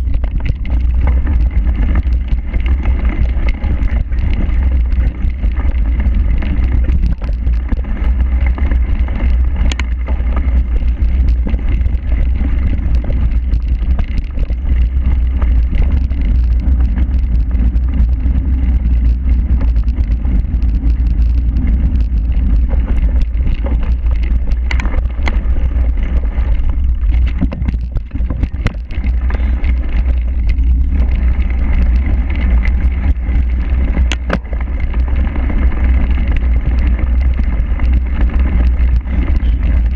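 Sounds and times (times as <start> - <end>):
bike knocks and rattles: 0.0 - 39.9
wind buffeting microphone: 0.0 - 39.9.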